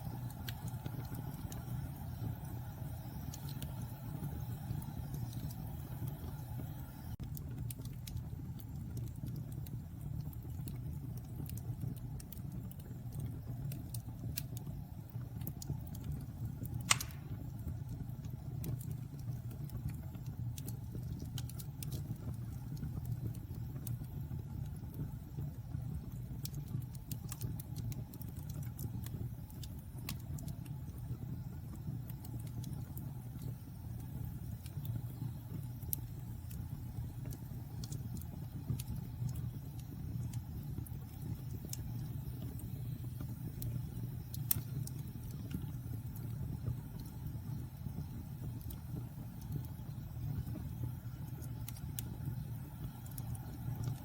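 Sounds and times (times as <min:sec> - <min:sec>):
fire crackling and popping: 0:00.0 - 0:54.0
fire low rumble: 0:00.0 - 0:54.0.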